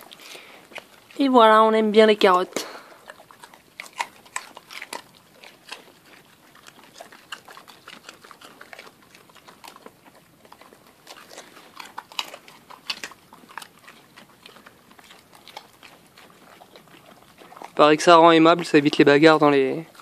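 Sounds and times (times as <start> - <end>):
dogs crunching carrots: 0.0 - 20.0.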